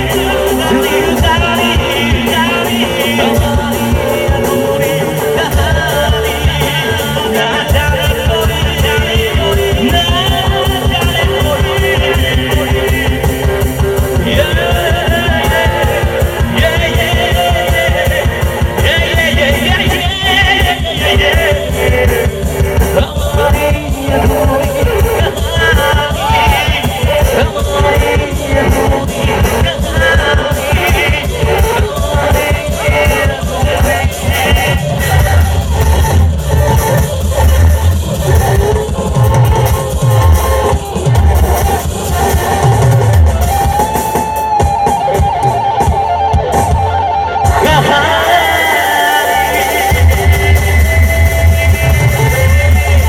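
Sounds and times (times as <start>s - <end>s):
fast drum beat: 0.0s - 53.0s
live band music through speakers: 0.0s - 53.0s.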